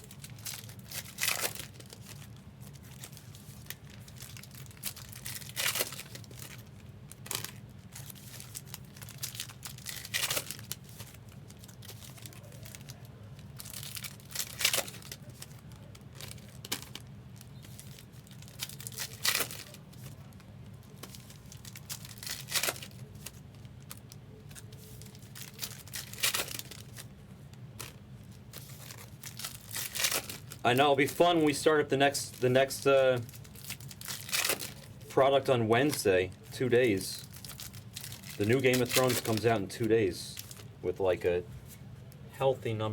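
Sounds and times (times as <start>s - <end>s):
card pack wrappers tearing: 0.0s - 27.1s, 27.8s - 40.7s
wrapper crinkling: 0.0s - 40.8s
steady low hum: 0.0s - 42.9s.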